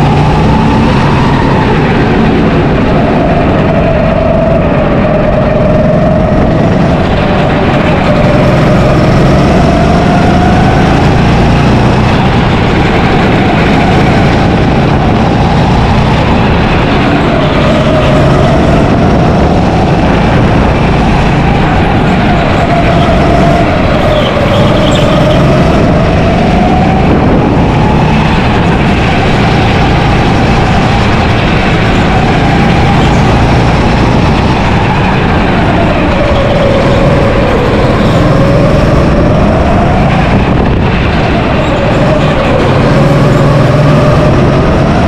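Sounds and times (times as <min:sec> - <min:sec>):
go-kart motor revving: 0:00.0 - 0:45.0
loud steady rumble: 0:00.0 - 0:45.0.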